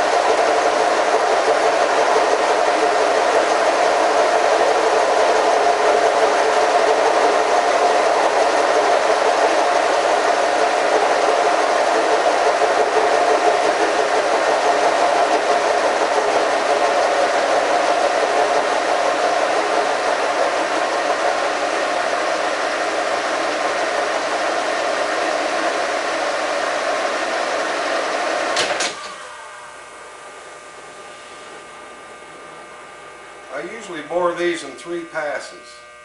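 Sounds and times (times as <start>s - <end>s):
boring mill machining noise: 0.0s - 36.0s
quiet machine hum: 0.0s - 36.0s.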